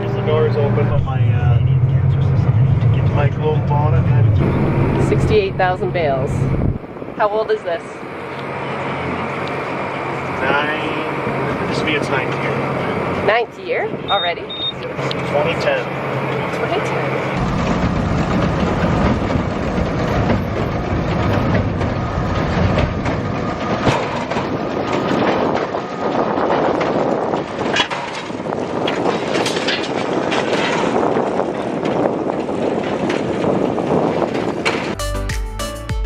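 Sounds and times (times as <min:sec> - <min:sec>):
tractor and baler clattering: 0:03.1 - 0:35.0.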